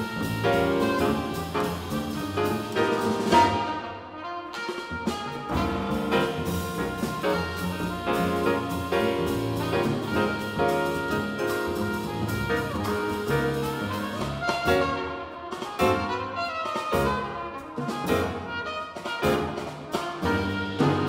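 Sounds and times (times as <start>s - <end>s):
double bass: 0.0s - 3.9s, 4.8s - 21.0s
drum kit with cymbals: 0.0s - 21.0s
piano: 0.0s - 21.0s
trumpet melody: 0.0s - 21.0s.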